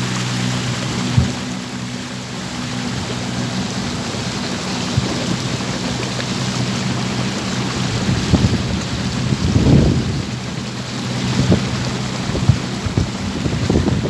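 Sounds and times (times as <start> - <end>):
boat motor running: 0.0 - 14.0
water rushing past: 0.0 - 14.0
wind noise: 2.7 - 14.0.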